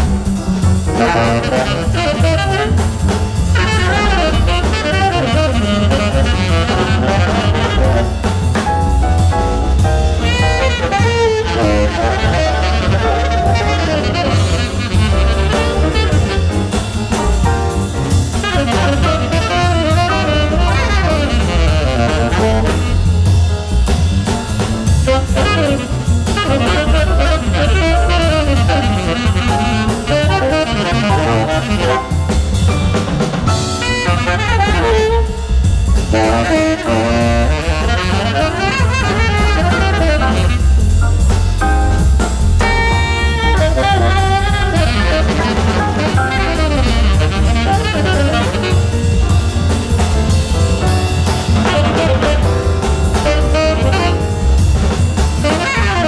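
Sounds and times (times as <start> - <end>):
double bass: 0.0 - 56.0
drum kit: 0.0 - 56.0
piano: 0.0 - 56.0
tenor saxophone melody: 0.2 - 8.7, 10.0 - 23.5, 24.9 - 32.8, 33.5 - 56.0.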